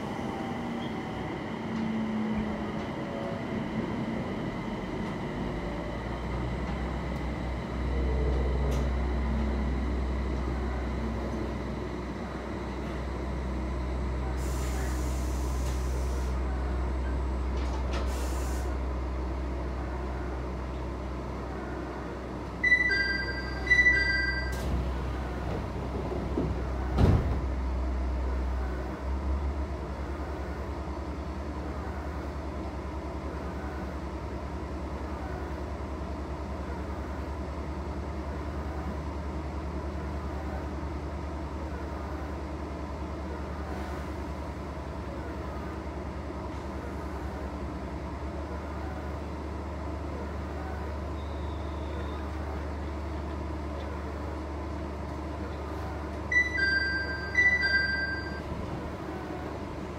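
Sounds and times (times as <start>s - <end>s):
low hum inside train: 0.0s - 59.9s.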